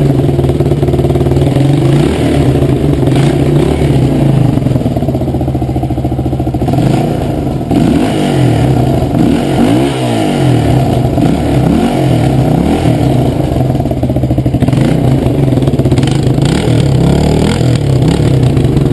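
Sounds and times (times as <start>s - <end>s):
motorcycle engine revving and idling: 0.0s - 18.9s.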